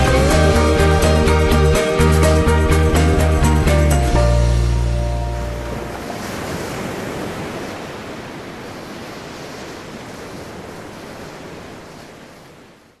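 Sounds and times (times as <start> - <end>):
ocean surf washing onto beach: 2.3 - 13.0.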